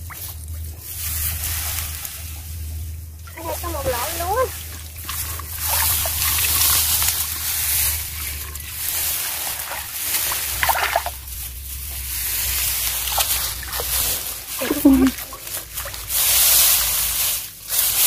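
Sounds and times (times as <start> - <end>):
low hum and hiss: 0.0 - 18.0
muddy water sloshing and splashing: 0.0 - 18.0.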